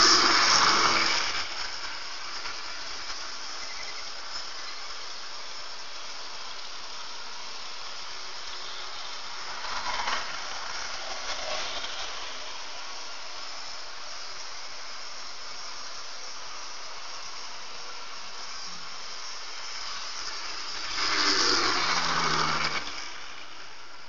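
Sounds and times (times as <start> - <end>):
model train rolling hiss: 0.0 - 24.0.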